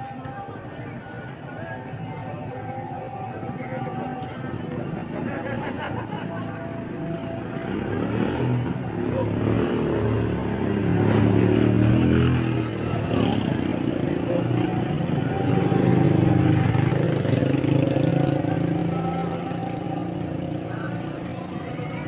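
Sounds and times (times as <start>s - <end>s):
vehicle engine running: 3.8s - 22.0s.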